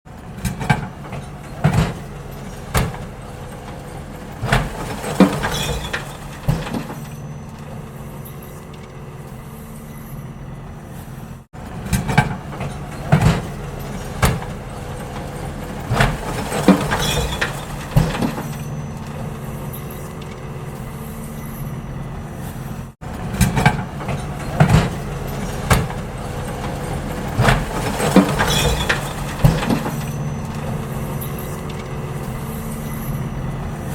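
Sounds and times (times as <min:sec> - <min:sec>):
garbage truck engine running: 0:00.1 - 0:33.9
sharp bangs and clanks: 0:00.2 - 0:10.8, 0:11.5 - 0:33.9.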